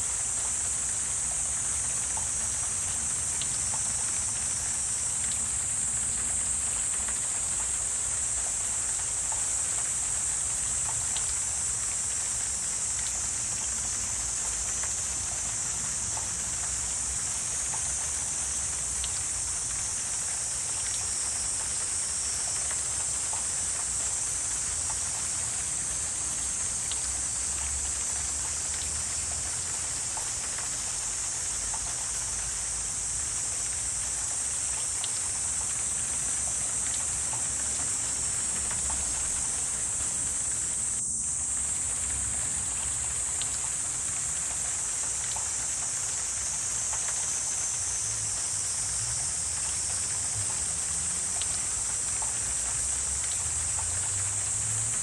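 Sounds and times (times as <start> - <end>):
insects chorus: 0.0 - 55.0
faint ticks: 6.0 - 55.0.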